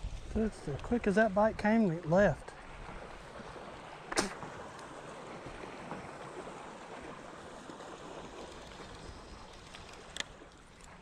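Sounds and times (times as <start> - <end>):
moving water around boat: 0.0 - 11.0.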